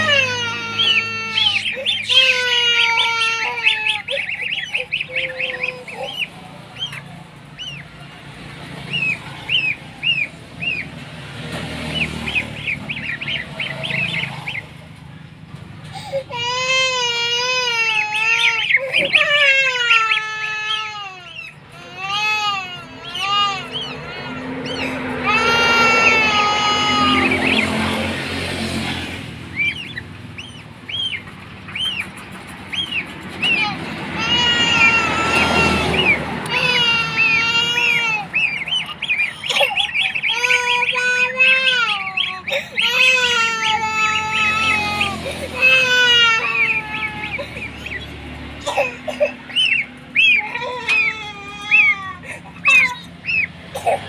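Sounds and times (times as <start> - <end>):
goslings peeping: 0.0 - 53.7
longer held gosling calls: 0.0 - 54.0.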